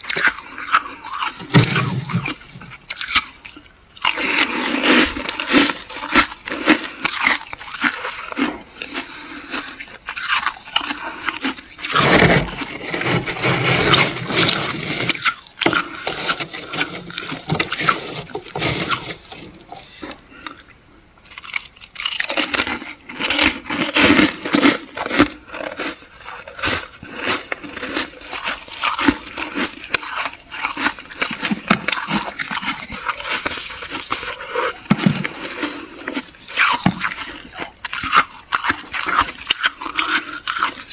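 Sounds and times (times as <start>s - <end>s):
frost crunching as eaten: 0.0s - 40.9s.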